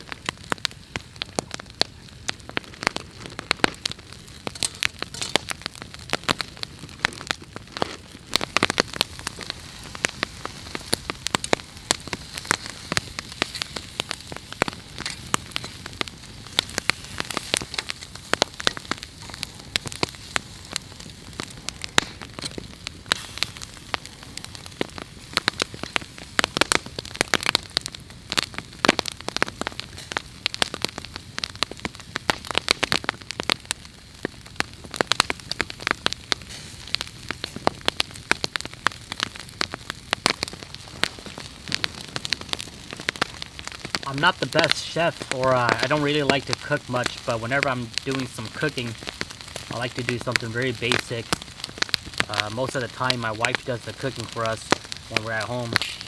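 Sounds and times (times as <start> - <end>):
campfire crackling: 0.0 - 56.0
steady hiss: 0.2 - 32.9, 40.2 - 56.0.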